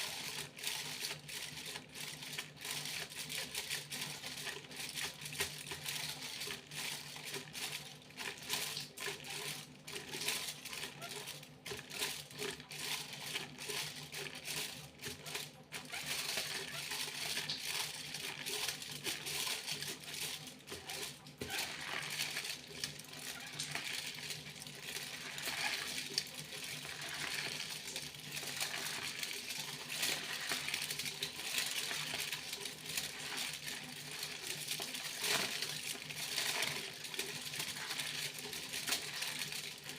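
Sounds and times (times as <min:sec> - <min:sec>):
foil crinkling: 0:00.0 - 0:39.9.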